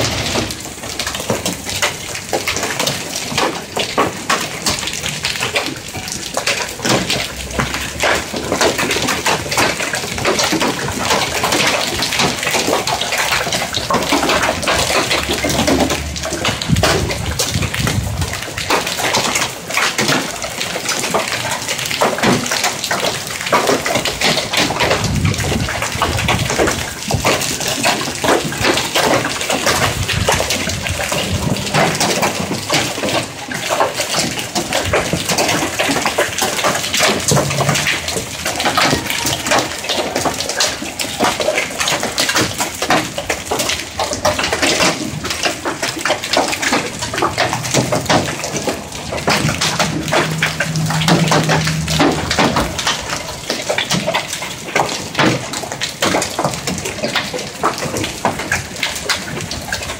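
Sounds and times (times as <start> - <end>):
hail clattering: 0.0 - 59.9.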